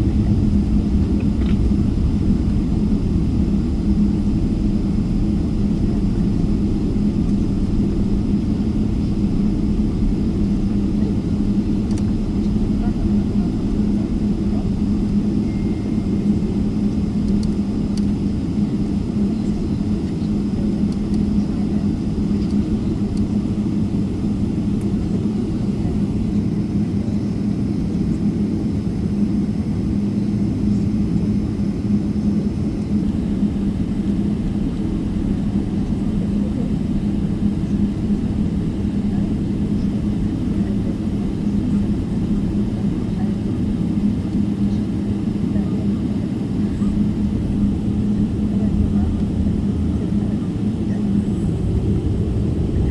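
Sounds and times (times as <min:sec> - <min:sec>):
jet engine cabin drone: 0:00.0 - 0:52.9.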